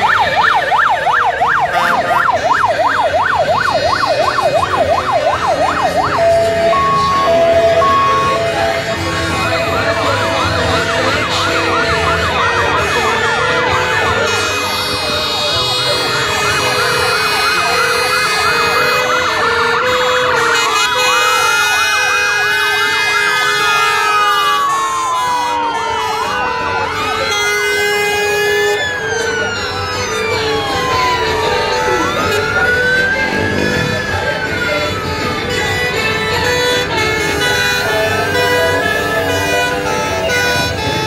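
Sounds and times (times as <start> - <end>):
fire engine sirens: 0.0 - 41.0
low two-tone siren: 0.0 - 41.0.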